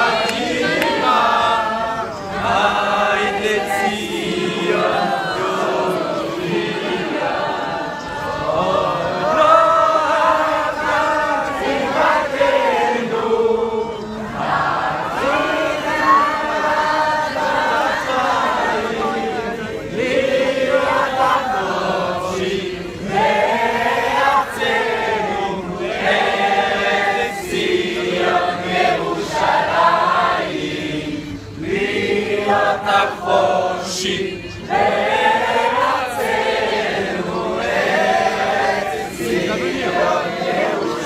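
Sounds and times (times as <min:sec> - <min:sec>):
large crowd singing in unison: 0:00.0 - 0:41.0.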